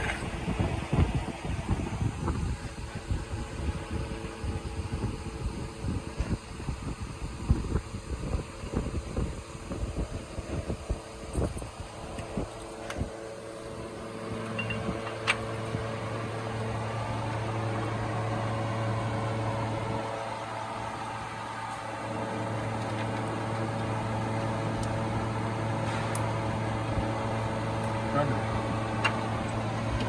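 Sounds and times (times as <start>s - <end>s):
machine humming: 0.0s - 30.0s.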